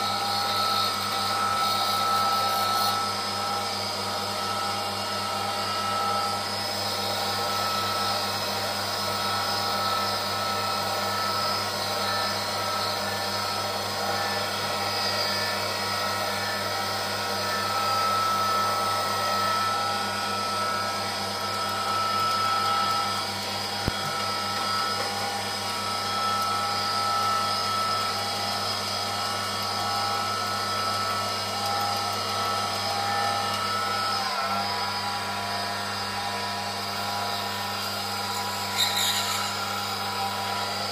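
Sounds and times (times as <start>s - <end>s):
metal lathe motor whining: 0.0s - 40.9s.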